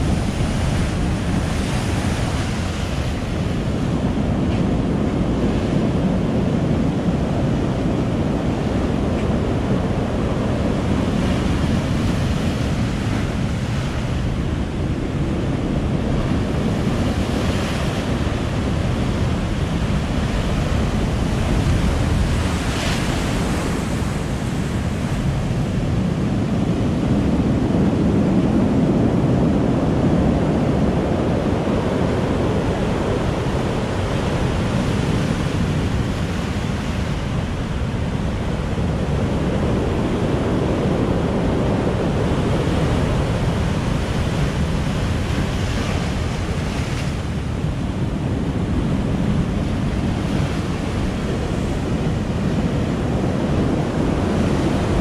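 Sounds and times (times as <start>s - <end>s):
storm surf on rocky beach: 0.0s - 55.0s.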